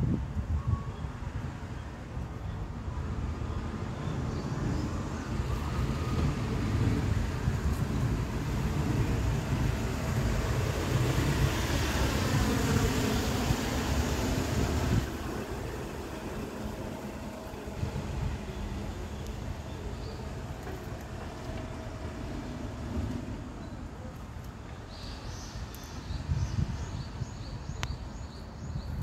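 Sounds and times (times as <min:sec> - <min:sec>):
road noise rumble: 0:00.0 - 0:29.0.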